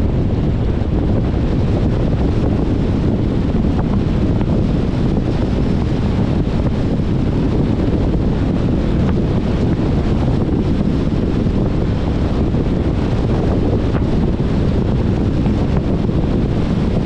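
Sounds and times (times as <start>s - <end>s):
low road rumble: 0.0s - 17.0s
wind rushing over microphone: 0.0s - 17.0s.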